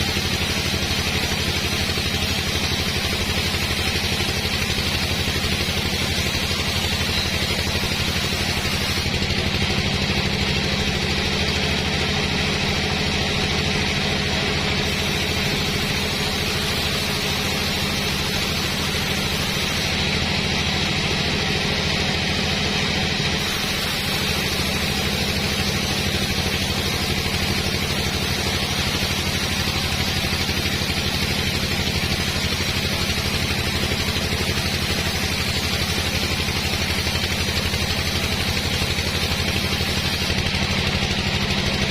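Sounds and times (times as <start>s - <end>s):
sawmill engine drone: 0.0s - 41.9s.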